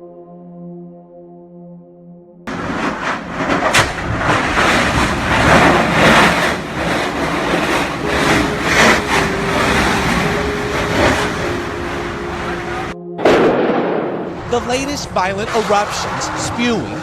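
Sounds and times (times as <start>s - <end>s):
lava fissure roaring: 2.5s - 17.0s.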